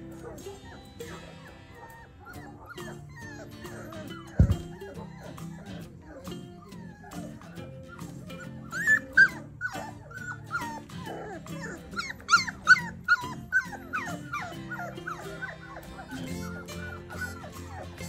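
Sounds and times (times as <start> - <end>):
background music: 0.0 - 18.0
puppies whining and yipping: 0.0 - 18.0.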